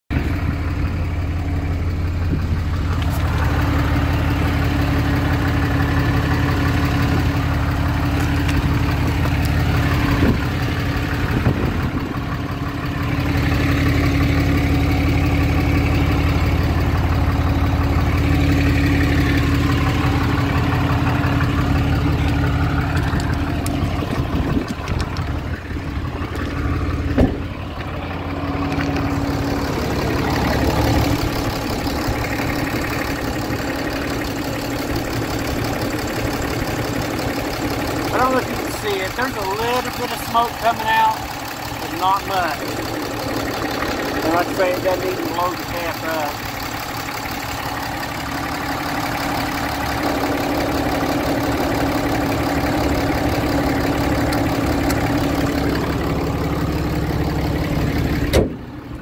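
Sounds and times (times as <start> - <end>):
truck engine idling: 0.1 - 59.0.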